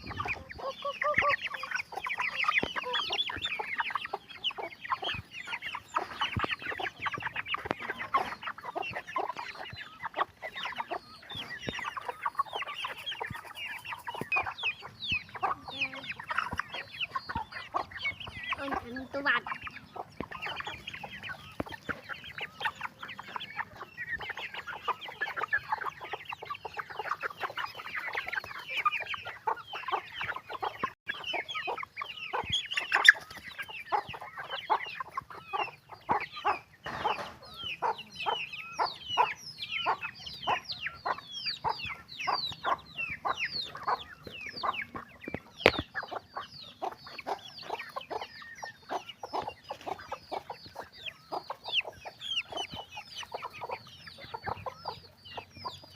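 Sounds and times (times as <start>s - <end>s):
chickens calling: 0.0s - 55.9s.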